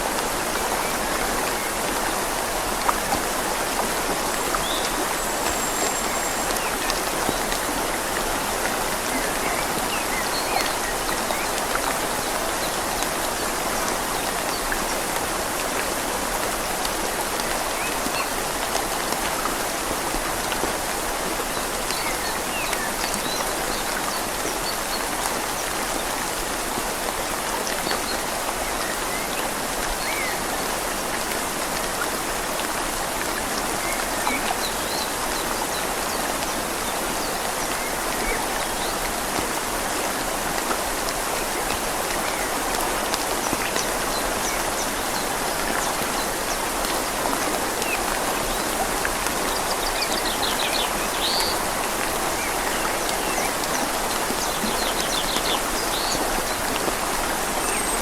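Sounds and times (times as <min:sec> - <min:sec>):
rain falling on leaves: 0:00.0 - 0:58.0
river flowing: 0:00.0 - 0:58.0.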